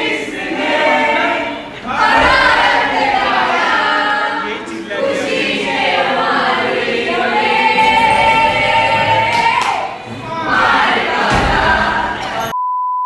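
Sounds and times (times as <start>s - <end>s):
choir singing: 0.0s - 12.5s.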